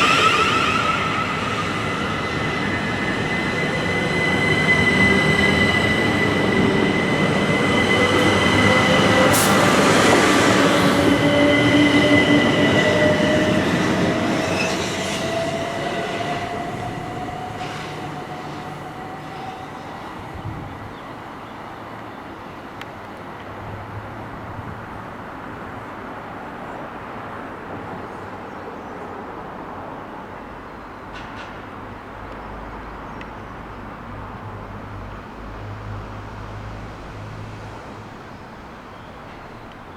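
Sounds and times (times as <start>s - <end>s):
train wheels rumbling on rails: 0.0s - 25.5s, 31.0s - 39.9s.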